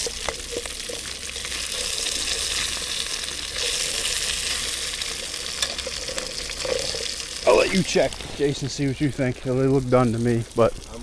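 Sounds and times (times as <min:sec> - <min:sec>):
patties sizzling in a pan: 0:00.0 - 0:11.0.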